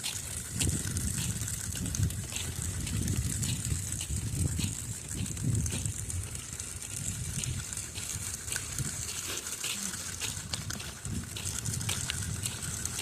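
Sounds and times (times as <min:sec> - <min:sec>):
footsteps on icy ground: 0:00.0 - 0:13.0
wind buffeting microphone: 0:00.0 - 0:13.0.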